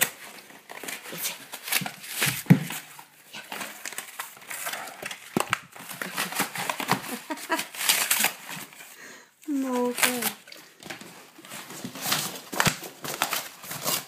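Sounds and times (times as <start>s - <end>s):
cardboard crinkling and tearing: 0.0s - 14.0s.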